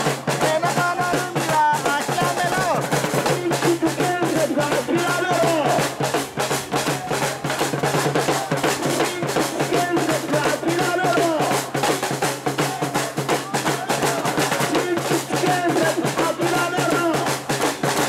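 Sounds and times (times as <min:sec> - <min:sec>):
drums beating fast rhythm: 0:00.0 - 0:18.0
people shouting: 0:00.4 - 0:06.0, 0:06.8 - 0:18.0.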